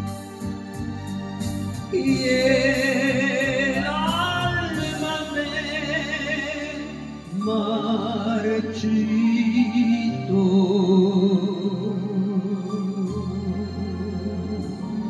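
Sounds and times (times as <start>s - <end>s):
ballad backing track: 0.0s - 15.0s
woman singing with vibrato: 1.9s - 15.0s.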